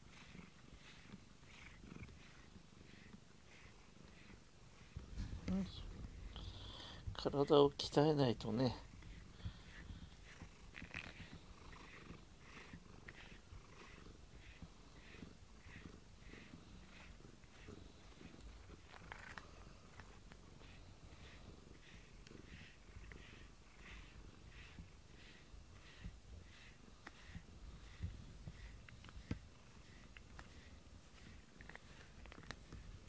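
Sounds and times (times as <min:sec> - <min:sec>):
cat purring: 0:00.0 - 0:33.0
soft rustle: 0:00.0 - 0:33.0.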